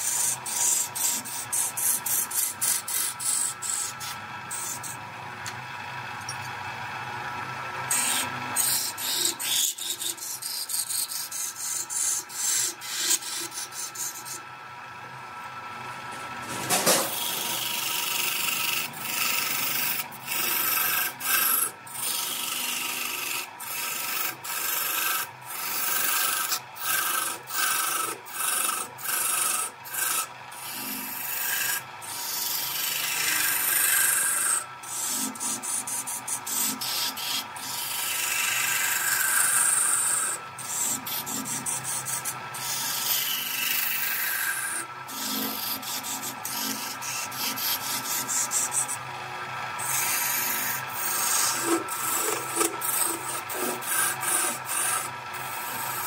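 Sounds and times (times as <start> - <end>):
lathe tool scraping wood: 0.0 - 5.0, 7.3 - 14.5, 15.8 - 56.0.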